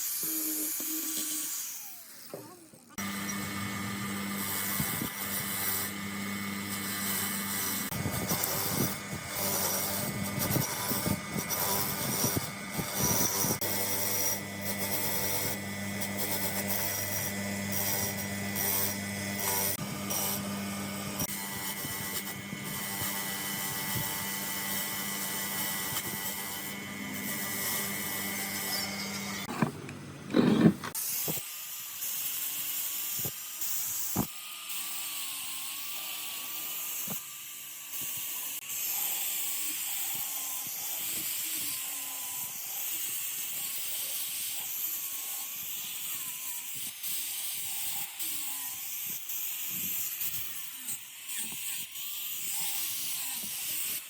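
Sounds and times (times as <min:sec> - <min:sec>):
power tool grinding metal: 0:00.0 - 0:54.0.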